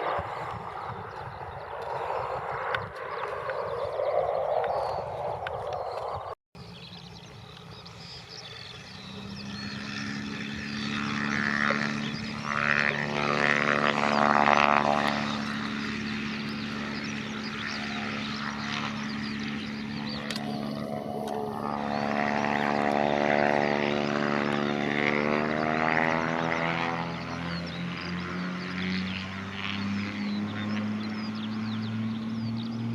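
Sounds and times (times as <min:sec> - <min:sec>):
propeller aircraft passing: 0:00.0 - 0:32.9.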